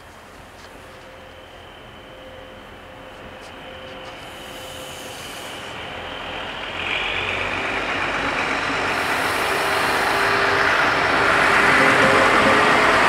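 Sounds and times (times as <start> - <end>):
train engine: 0.0 - 13.0
wheels on rails: 0.0 - 13.0.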